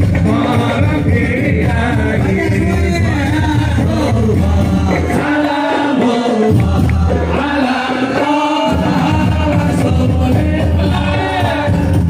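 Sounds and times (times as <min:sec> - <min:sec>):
man singing devotional song: 0:00.0 - 0:12.0
music with heavy low beat: 0:00.0 - 0:12.0.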